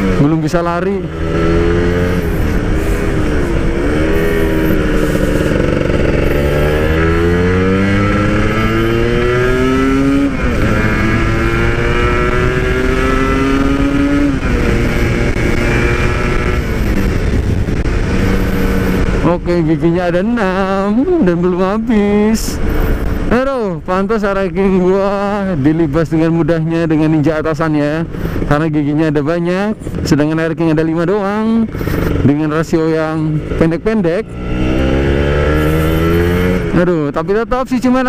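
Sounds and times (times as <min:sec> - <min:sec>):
motorcycle accelerating through gears: 0:00.0 - 0:23.4, 0:24.8 - 0:38.0.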